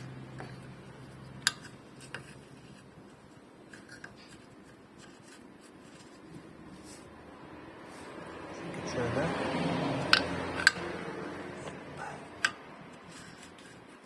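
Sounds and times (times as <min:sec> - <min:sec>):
light rubbing of parts: 0:00.0 - 0:07.2, 0:07.8 - 0:14.0.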